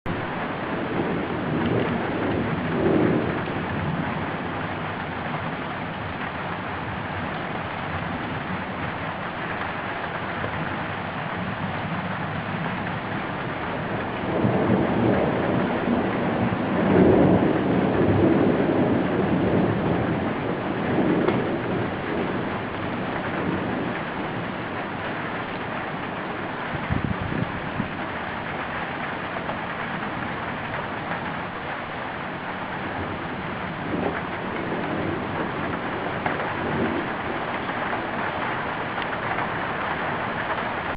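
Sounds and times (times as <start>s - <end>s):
steady rain falling: 0.1s - 40.9s
thunder rumbling: 0.1s - 40.9s.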